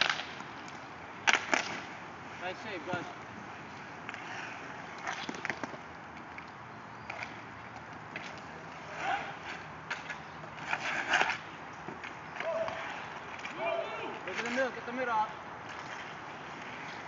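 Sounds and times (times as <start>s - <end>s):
hockey sticks clacking: 0.0s - 1.9s, 4.0s - 17.0s
skates rolling on asphalt: 0.0s - 17.0s.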